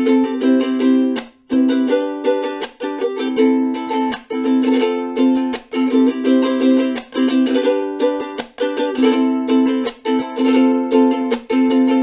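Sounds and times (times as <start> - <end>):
ukulele strumming: 0.0 - 12.0.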